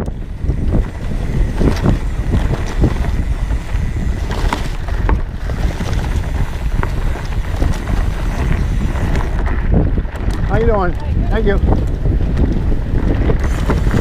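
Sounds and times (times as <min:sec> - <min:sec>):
bike clicks and rattles: 0:00.0 - 0:14.0
bike tyres rumbling on dirt: 0:00.0 - 0:14.0
wind buffeting microphone: 0:00.0 - 0:14.0.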